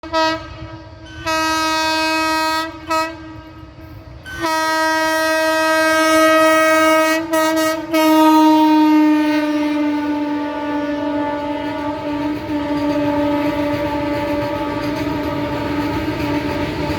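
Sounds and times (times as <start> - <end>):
locomotive horn: 0.0 - 16.9.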